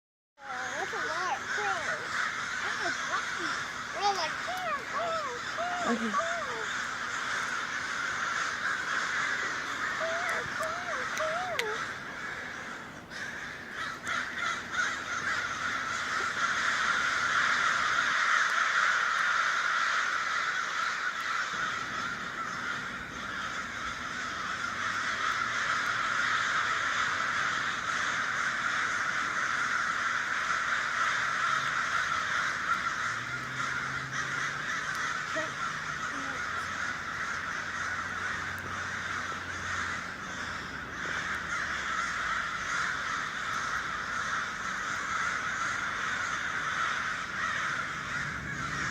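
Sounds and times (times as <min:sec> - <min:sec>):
flock of birds calling: 0:00.4 - 0:48.9.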